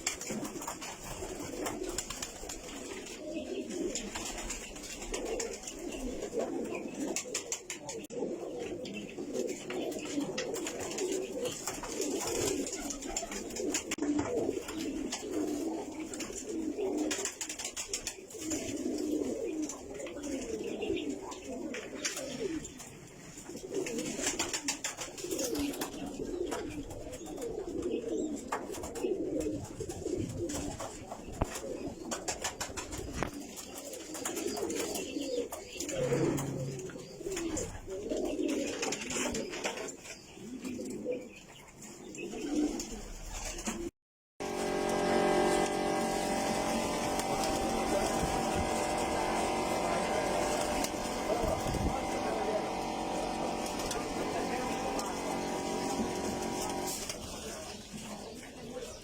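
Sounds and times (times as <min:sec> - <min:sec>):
pigeons cooing: 0:00.0 - 0:43.9, 0:44.5 - 0:59.0.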